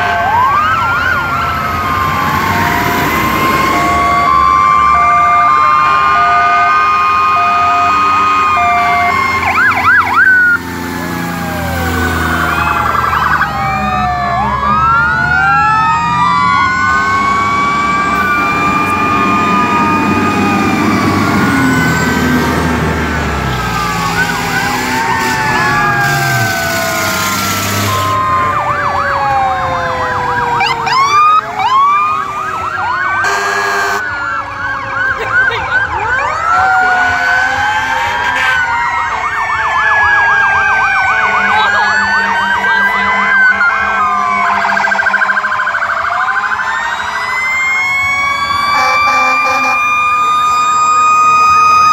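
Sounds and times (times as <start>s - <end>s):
siren yelps: 0.0s - 51.9s
sirens wailing: 0.0s - 51.9s.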